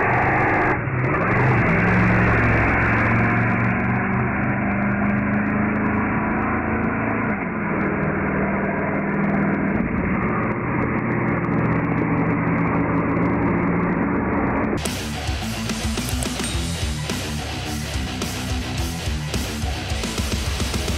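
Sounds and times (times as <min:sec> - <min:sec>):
loud engine drone: 0:00.0 - 0:20.9.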